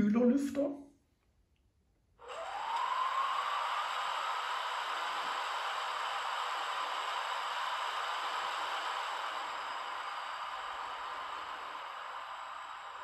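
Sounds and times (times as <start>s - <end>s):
fan whoosh from small speaker: 2.2s - 13.0s.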